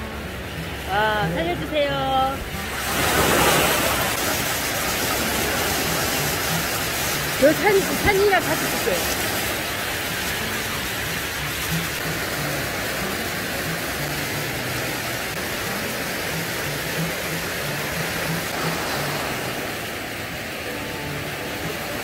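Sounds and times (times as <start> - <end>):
surf washing over rocks: 0.0 - 22.0.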